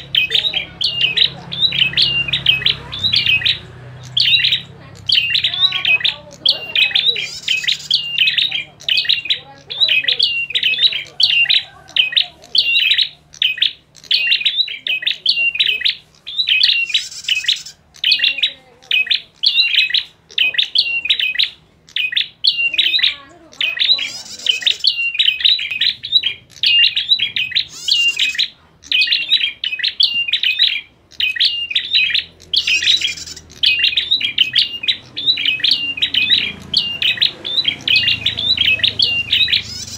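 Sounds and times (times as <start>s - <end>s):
birds chattering rapidly: 0.0s - 39.9s
higher buzzy bird call: 0.0s - 39.9s.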